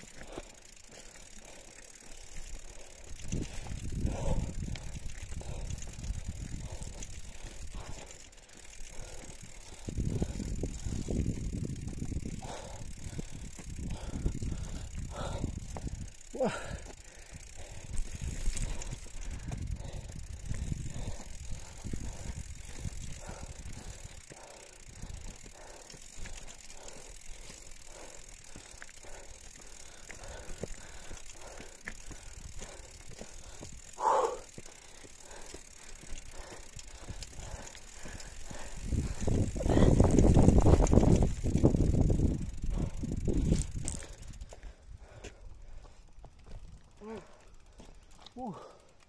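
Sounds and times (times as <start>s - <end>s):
bike rattling: 0.0s - 49.0s.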